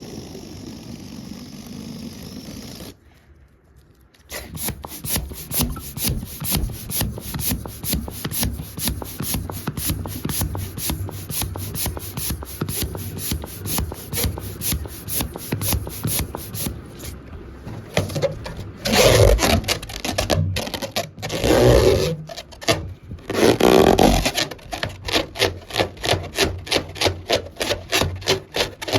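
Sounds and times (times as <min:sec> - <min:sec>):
hand rubbing a balloon: 0:04.2 - 0:28.9.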